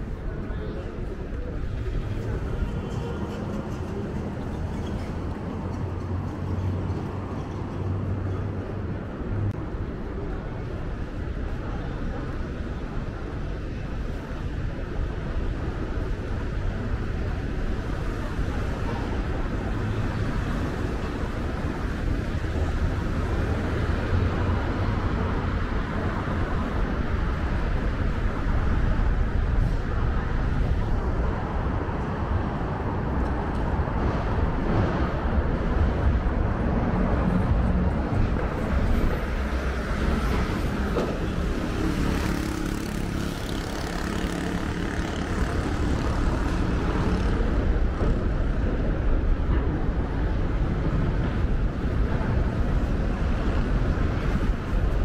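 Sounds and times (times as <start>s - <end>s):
passing traffic rumble: 0.0s - 55.0s.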